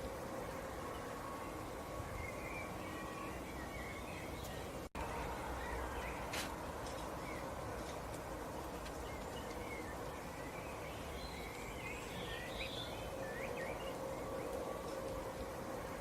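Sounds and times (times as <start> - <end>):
outdoor background noise: 0.0 - 16.0
small birds chirping: 0.5 - 16.0.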